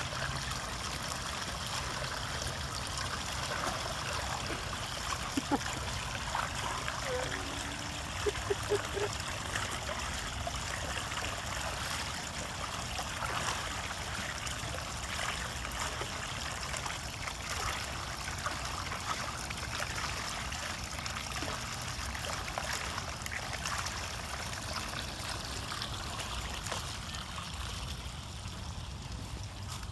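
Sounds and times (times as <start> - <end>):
water trickling over rocks: 0.0 - 29.9.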